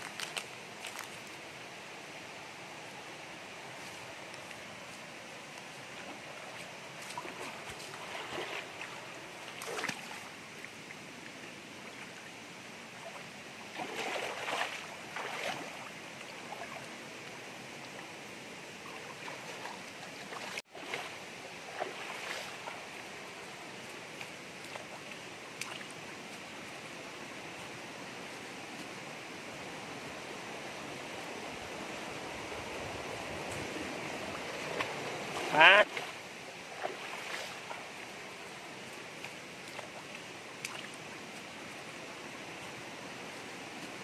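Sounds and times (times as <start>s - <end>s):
rocky stream running: 0.0s - 44.0s.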